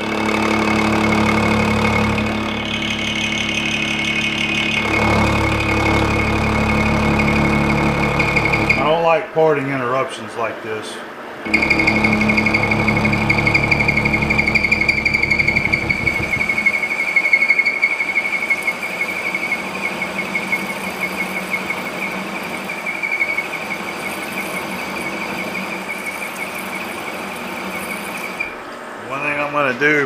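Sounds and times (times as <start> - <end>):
lathe running hum: 0.0 - 9.0, 11.1 - 29.1
lathe blade squealing on steel: 1.9 - 8.9, 11.5 - 28.6.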